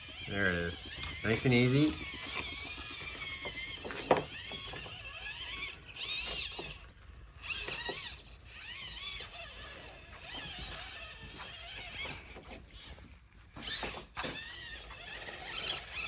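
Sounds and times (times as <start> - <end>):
toy car motor whining: 0.0 - 16.0.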